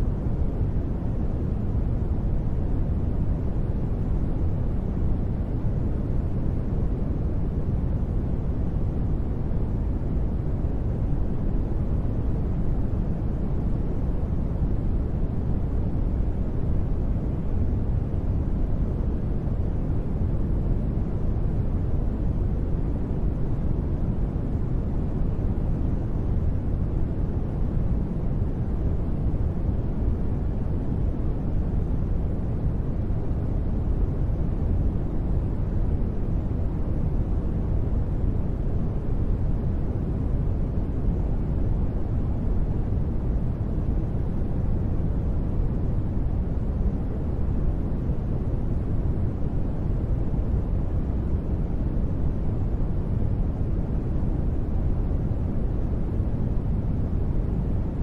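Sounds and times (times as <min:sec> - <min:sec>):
low rumbling sleep noise: 0:00.0 - 0:58.0.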